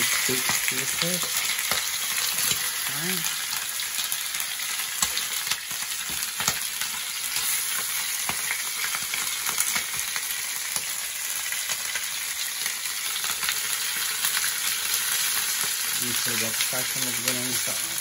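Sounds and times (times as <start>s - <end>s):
chicken sizzling in hot oil: 0.0s - 18.0s
oil popping and crackling: 0.0s - 18.0s.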